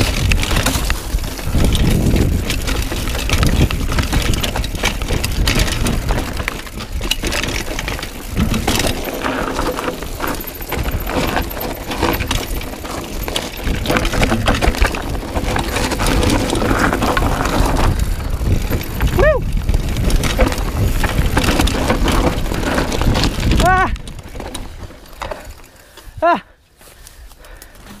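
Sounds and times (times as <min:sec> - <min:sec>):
tyres crunching over stones: 0:00.0 - 0:26.2
wind buffeting microphone: 0:00.0 - 0:26.2
bike rattling over bumps: 0:00.0 - 0:28.0.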